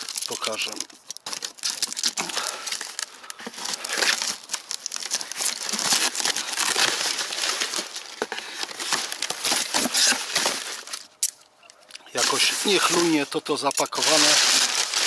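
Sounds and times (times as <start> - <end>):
plastic wrapping crinkling and tearing: 0.0 - 15.0.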